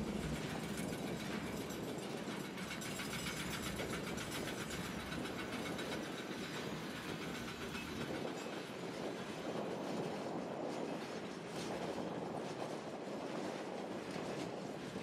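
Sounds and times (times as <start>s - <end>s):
train rumble: 0.0s - 15.0s
train wheels clicking over rails: 0.0s - 15.0s.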